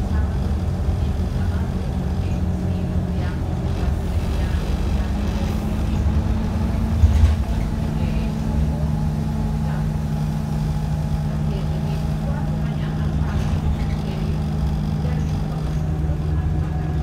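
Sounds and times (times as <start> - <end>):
bus engine drone: 0.0 - 17.0
road rumble: 0.0 - 17.0.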